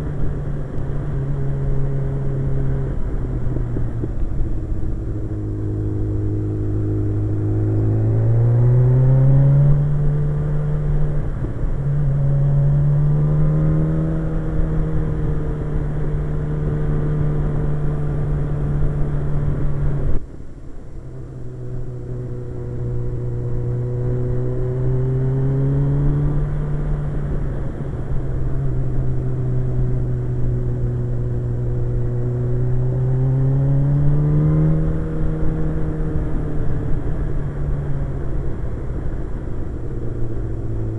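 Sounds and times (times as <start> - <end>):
motorcycle engine revving: 0.0 - 20.2, 21.3 - 40.9.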